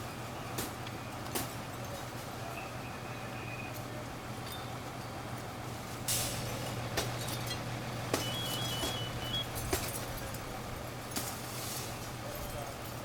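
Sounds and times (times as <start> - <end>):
fire truck engines droning: 0.0 - 13.0.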